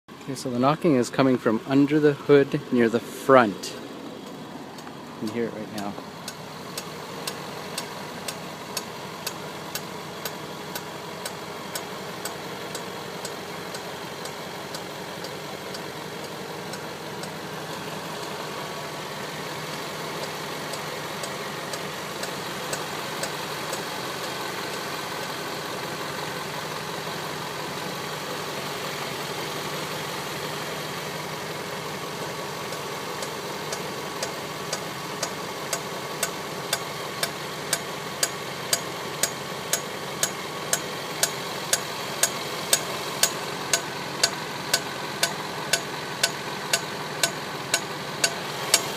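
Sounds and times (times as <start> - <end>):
car engine idling: 0.1 - 48.9.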